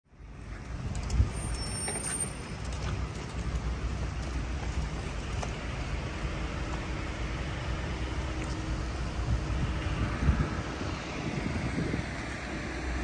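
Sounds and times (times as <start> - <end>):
car engines rumbling: 0.1 - 13.0
wet road noise hiss: 0.1 - 13.0.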